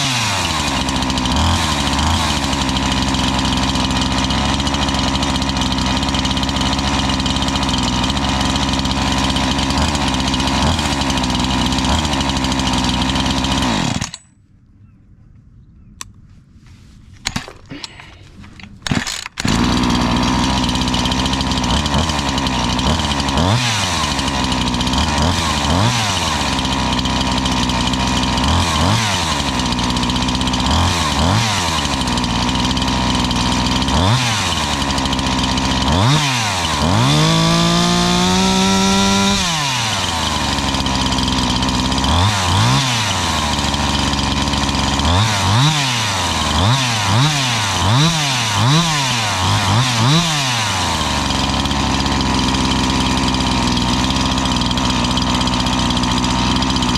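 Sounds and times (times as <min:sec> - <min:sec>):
chainsaw idling and revving: 0:00.0 - 0:14.3, 0:17.4 - 0:56.9.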